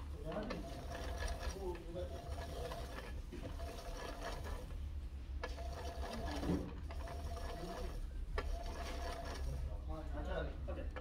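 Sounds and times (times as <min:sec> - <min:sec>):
toy washing machine motor whirring: 0:00.0 - 0:04.8, 0:05.4 - 0:09.8.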